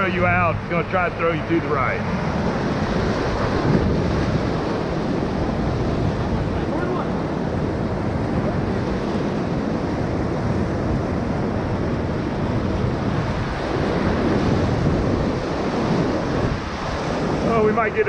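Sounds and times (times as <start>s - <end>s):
whitewater rushing: 0.0s - 18.0s
wind noise on microphone: 0.0s - 18.0s.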